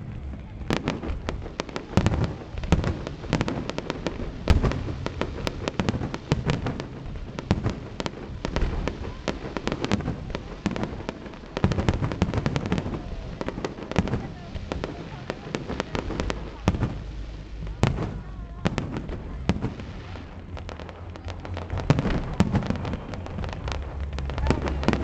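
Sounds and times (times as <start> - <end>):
deep fireworks booms: 0.0 - 25.0
fireworks sharp bangs: 0.0 - 25.0.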